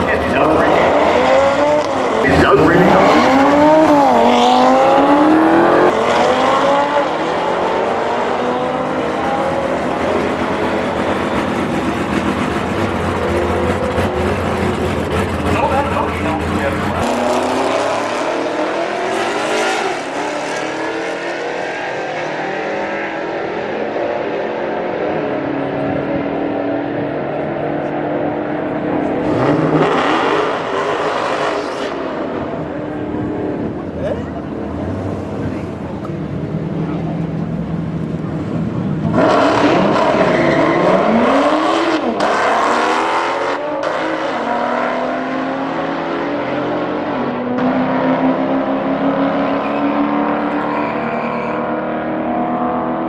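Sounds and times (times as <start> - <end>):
drag race cars at full throttle: 0.0 - 53.0.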